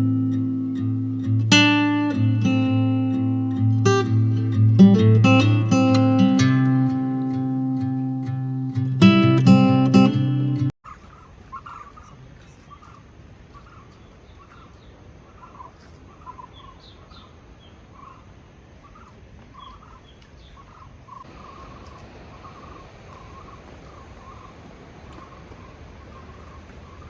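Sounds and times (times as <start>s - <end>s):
birds chirping: 0.0s - 27.0s
steady background hiss: 0.0s - 27.0s.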